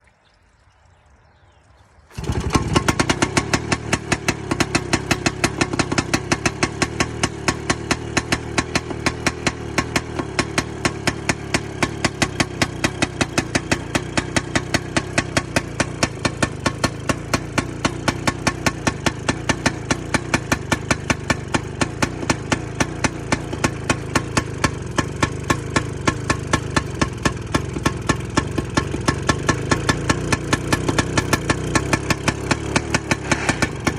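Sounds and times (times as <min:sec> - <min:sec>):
tractor engine running: 0:02.0 - 0:33.9.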